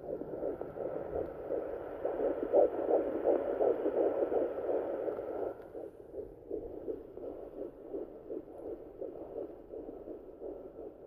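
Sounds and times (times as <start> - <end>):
fetal heartbeat on doppler speaker: 0.0 - 11.0.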